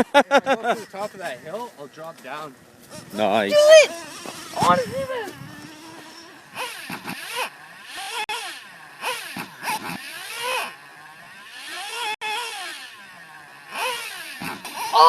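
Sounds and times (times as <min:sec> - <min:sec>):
small nitro engine revving: 0:02.8 - 0:15.0.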